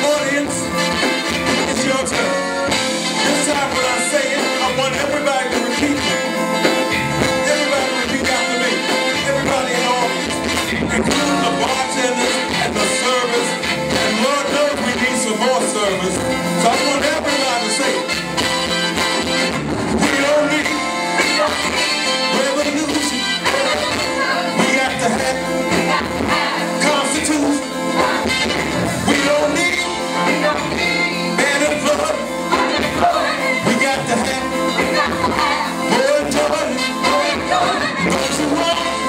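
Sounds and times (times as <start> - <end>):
lead and backing vocals: 0.0 - 39.0
live band playing: 0.0 - 39.0.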